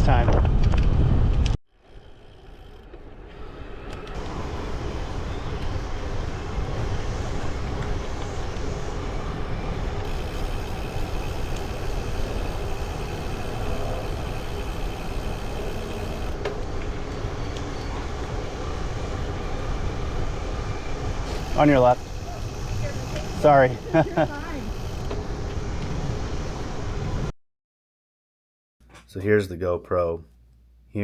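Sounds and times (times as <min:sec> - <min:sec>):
wind and road noise rumble: 0:00.0 - 0:27.3.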